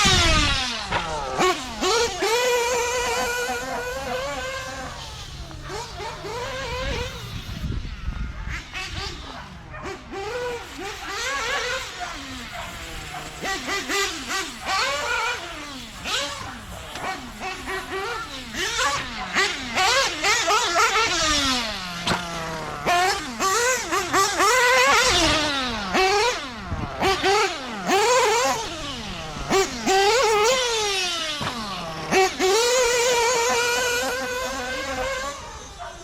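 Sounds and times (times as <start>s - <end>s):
nitro engine revving: 0.0s - 36.0s.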